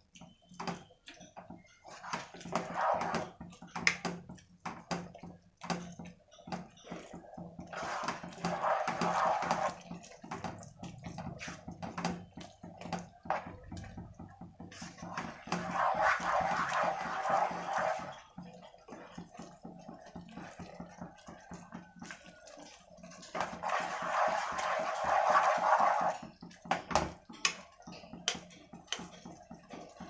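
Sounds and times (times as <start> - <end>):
wet sloshing and squelching: 0.1 - 30.0.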